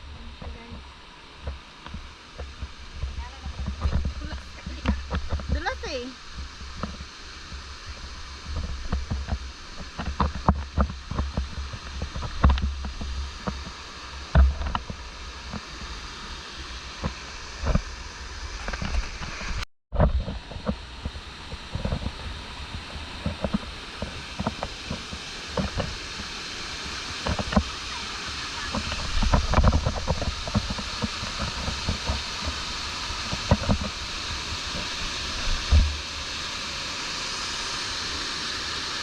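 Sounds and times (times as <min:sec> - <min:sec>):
stream rushing over rocks: 0:00.0 - 0:39.0
wind on microphone: 0:00.0 - 0:39.0.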